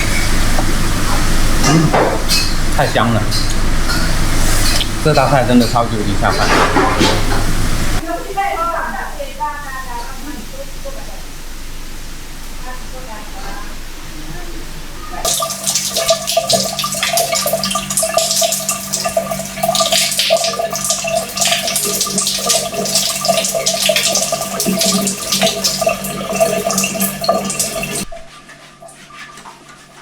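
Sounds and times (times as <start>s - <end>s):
steady mechanical hum: 0.0s - 28.4s
water running and splashing: 0.0s - 30.0s.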